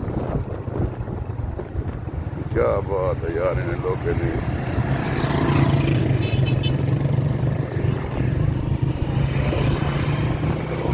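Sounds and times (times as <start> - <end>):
road noise: 0.0 - 10.9.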